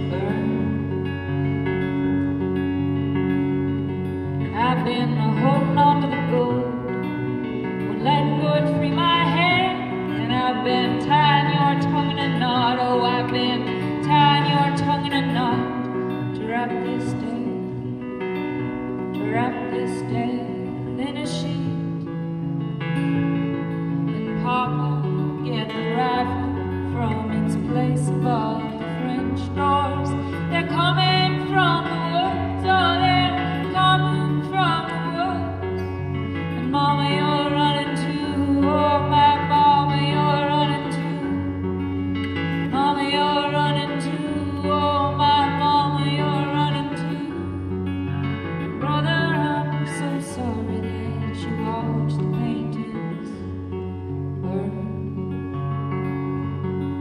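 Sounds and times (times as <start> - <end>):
acoustic guitar: 0.0 - 57.0
woman singing folk song: 0.0 - 57.0.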